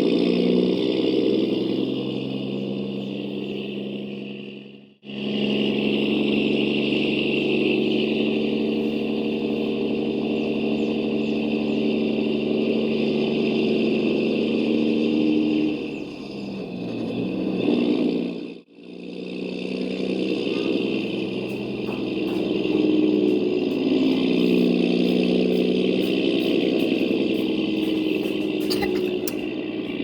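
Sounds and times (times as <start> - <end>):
toy truck motor: 0.0 - 30.0.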